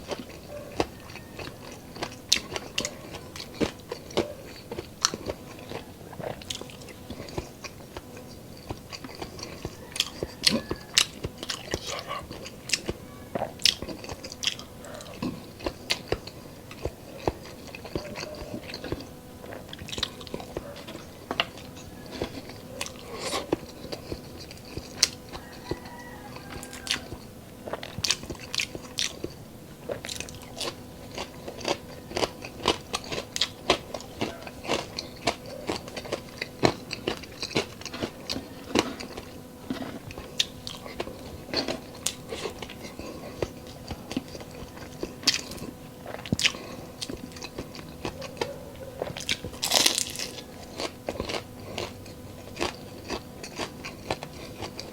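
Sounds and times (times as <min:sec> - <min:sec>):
crunching and chewing crispy food: 0:00.0 - 0:54.9
faint steady hum: 0:00.0 - 0:54.9.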